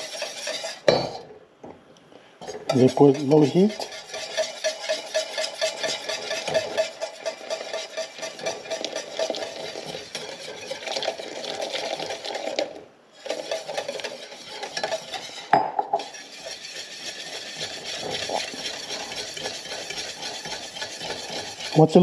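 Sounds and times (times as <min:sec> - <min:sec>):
utensil stirring in pot: 0:00.0 - 0:01.1, 0:02.4 - 0:22.0
utensil clinking against pot: 0:02.4 - 0:12.6, 0:13.2 - 0:21.9.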